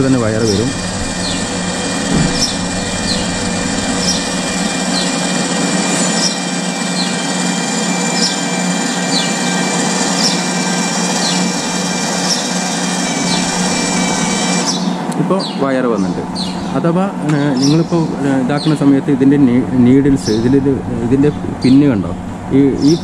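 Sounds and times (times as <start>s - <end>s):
welder wire-feed motor running: 0.0s - 23.0s.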